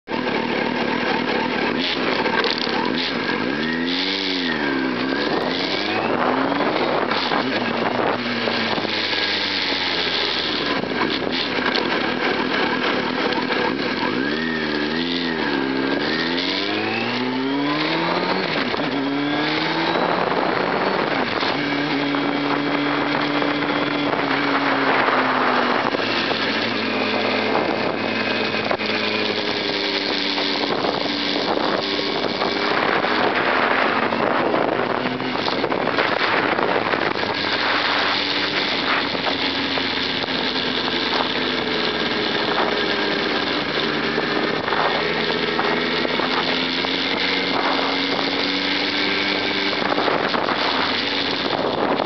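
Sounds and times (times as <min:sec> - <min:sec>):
motorcycle engine accelerating: 0:00.0 - 0:52.0
wind noise on microphone: 0:00.1 - 0:52.0.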